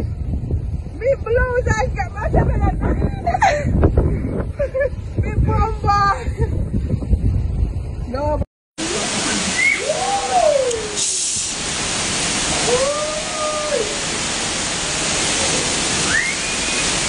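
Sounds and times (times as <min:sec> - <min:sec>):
hurricane wind rushing: 0:00.0 - 0:17.0
wind howling: 0:00.0 - 0:17.0.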